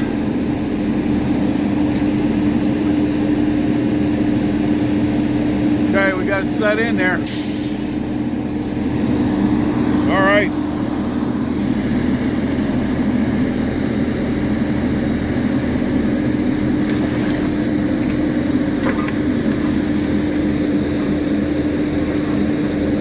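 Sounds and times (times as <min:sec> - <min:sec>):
heavy engine humming: 0:00.0 - 0:23.0.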